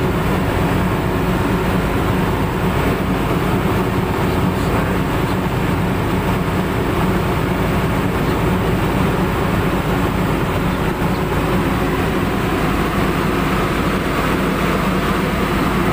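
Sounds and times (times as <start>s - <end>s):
heavy machinery engine drone: 0.0s - 15.9s.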